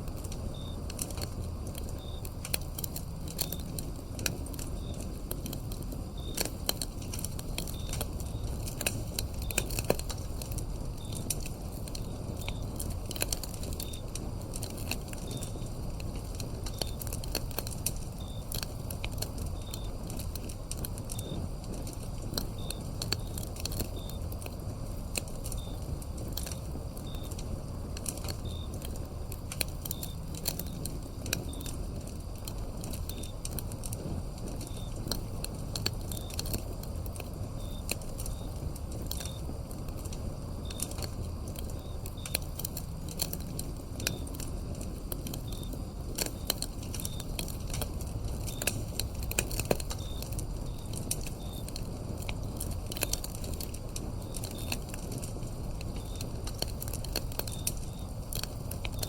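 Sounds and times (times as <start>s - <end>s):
cricket chirping: 0.0s - 59.0s
wood fire crackling: 0.0s - 59.0s.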